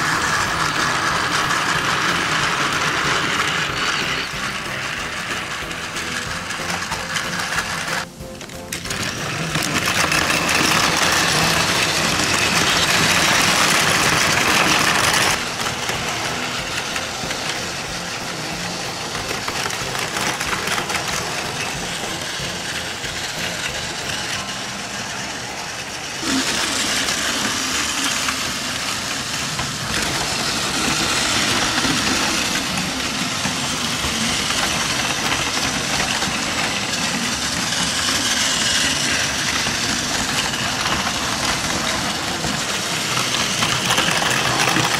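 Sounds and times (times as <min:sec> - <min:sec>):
toy train motors whirring: 0:00.0 - 0:44.9
wheels rattling on plastic track: 0:00.0 - 0:44.9.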